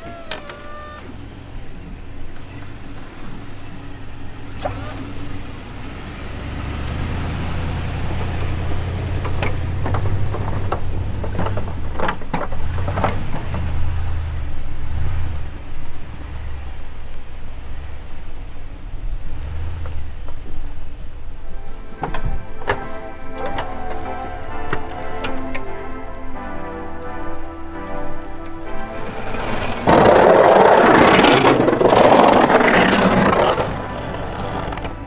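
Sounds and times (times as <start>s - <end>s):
snow plow scraping and knocking: 0.0s - 35.0s
truck engine rumble: 0.0s - 35.0s.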